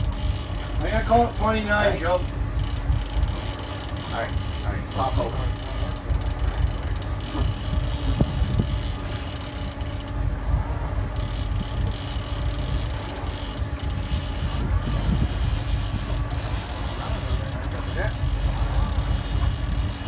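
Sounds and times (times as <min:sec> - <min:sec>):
boat engine running: 0:00.0 - 0:20.0
choppy water washing: 0:00.0 - 0:20.0
wind buffeting microphone: 0:00.0 - 0:20.0.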